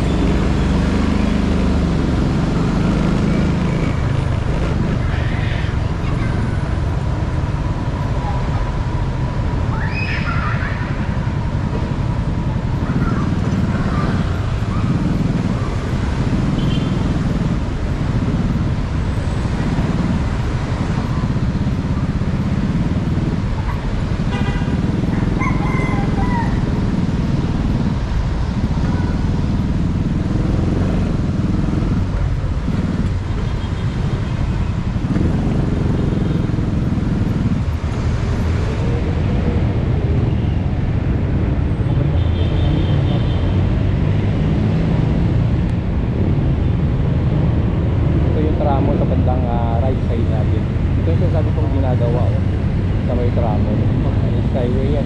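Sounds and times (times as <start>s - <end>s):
motorcycle engine: 0.0s - 55.0s
surrounding cars: 0.0s - 55.0s.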